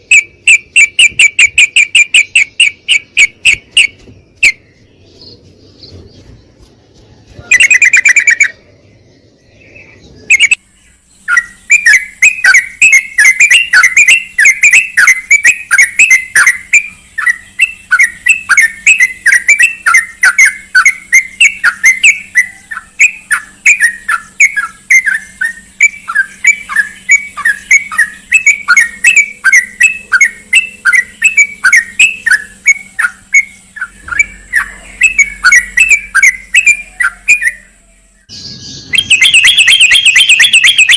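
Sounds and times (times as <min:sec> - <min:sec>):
bird calling in rapid chirps: 0:00.0 - 0:40.9.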